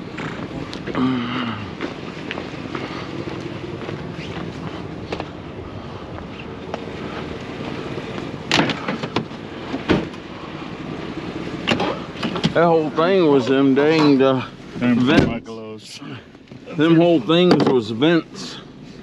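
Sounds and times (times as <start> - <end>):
vehicle idling: 0.0 - 19.0.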